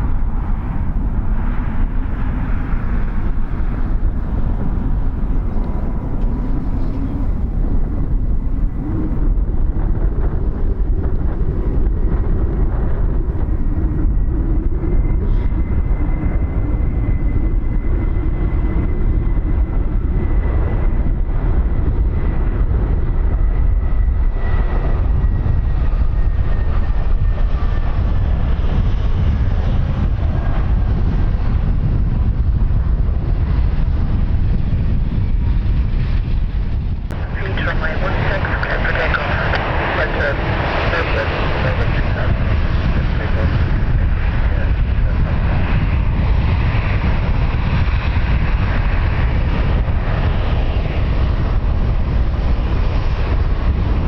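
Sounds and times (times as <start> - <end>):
aircraft engine rumble: 0.0 - 54.0.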